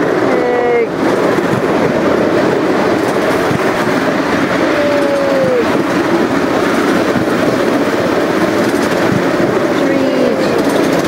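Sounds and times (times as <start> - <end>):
train wheels rattling on rails: 0.0 - 11.0.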